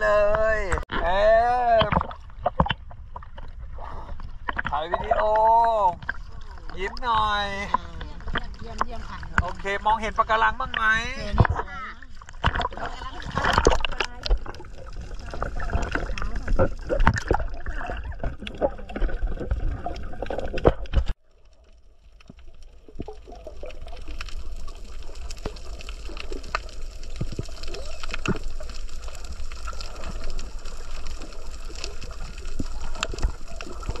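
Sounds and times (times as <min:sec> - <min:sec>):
water sloshing and splashing: 0:00.6 - 0:34.0
sharp clicks and crackles: 0:01.8 - 0:04.8, 0:05.8 - 0:34.0.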